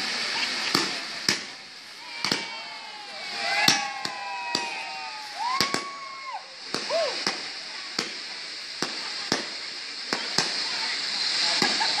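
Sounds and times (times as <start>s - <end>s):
firework bangs: 0.0s - 12.0s
firework fountains hissing: 0.0s - 12.0s.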